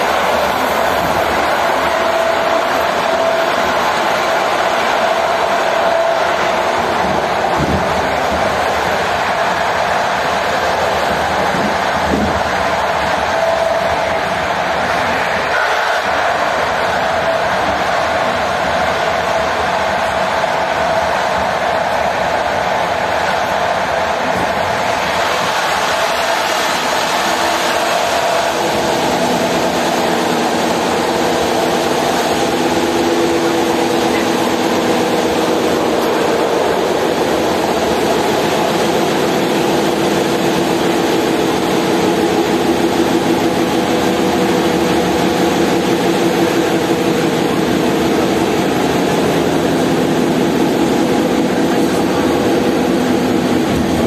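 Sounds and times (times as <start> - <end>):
passenger train rolling: 0.0 - 54.0.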